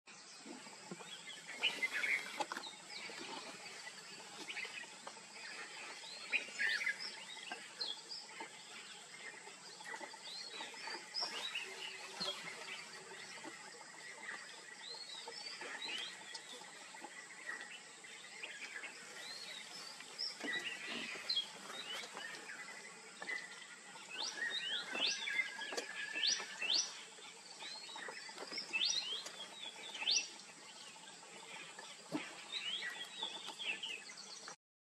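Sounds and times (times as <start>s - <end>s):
birds chirping and calling: 0.3s - 34.6s.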